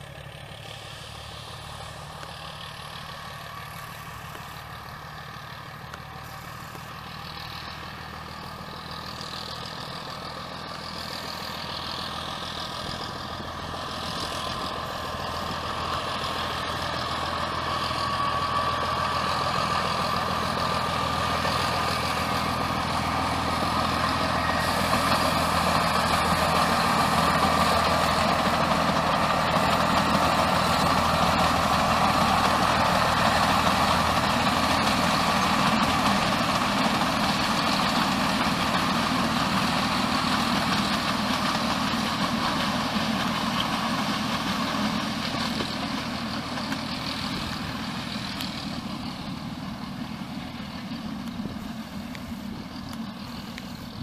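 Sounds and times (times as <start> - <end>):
diesel locomotive engine under load: 0.0 - 54.0.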